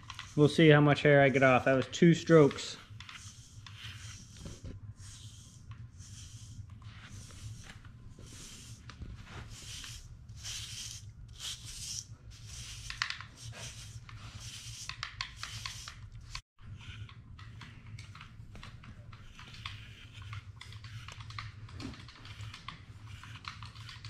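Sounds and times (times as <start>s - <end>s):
brush scratching through dog fur: 0.0s - 0.7s, 2.3s - 17.7s, 18.6s - 24.0s.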